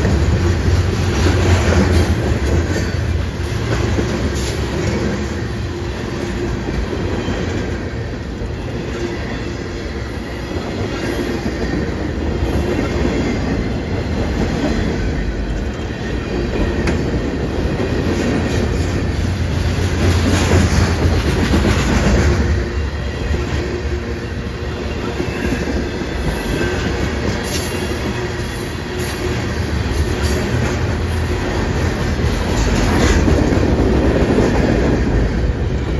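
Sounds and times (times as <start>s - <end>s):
train rumbling on track: 0.0s - 35.9s.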